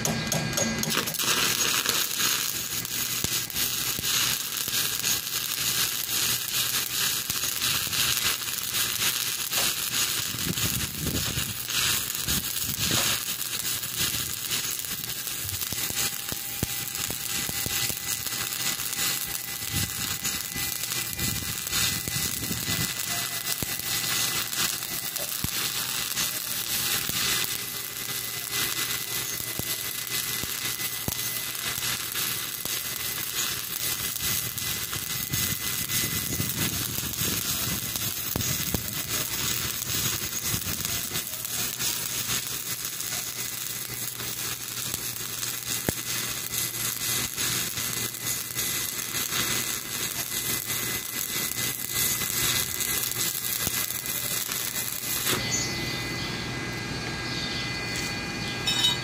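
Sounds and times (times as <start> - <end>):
welding arc crackling: 0.0 - 59.0.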